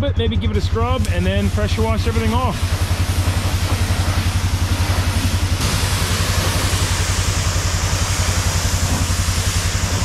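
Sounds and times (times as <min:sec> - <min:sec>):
pressure washer spraying: 0:00.4 - 0:10.0.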